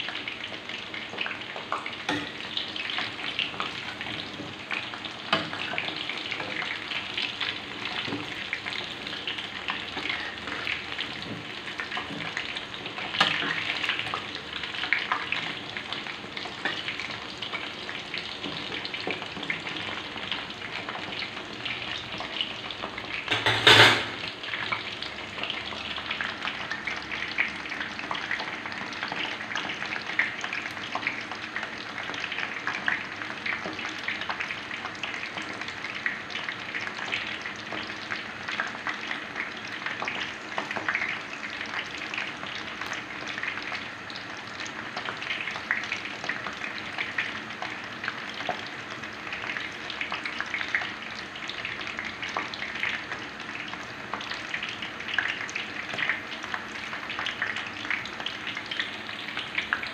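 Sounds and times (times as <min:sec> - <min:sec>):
food deep-frying in oil: 0:00.0 - 0:59.9.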